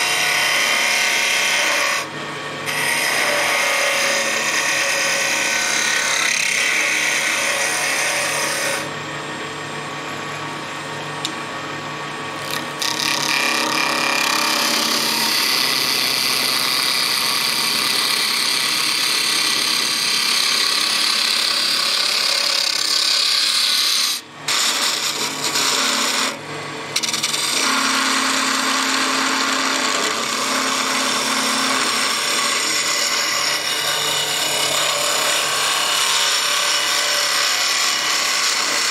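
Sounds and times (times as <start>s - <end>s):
gouge cutting wood on a lathe: 0.0s - 8.9s, 12.4s - 38.9s
lathe motor humming: 0.0s - 38.9s.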